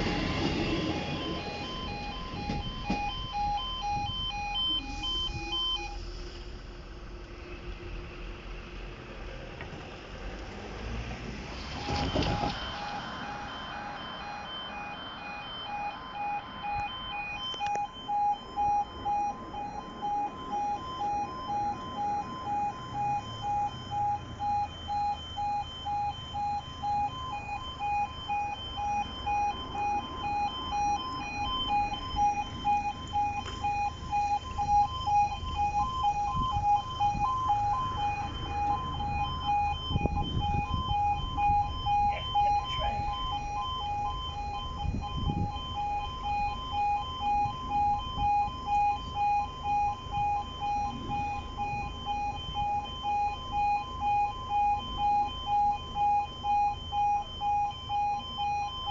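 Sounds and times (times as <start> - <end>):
two-tone electronic alarm pulsing: 0.0 - 6.1, 11.8 - 58.9.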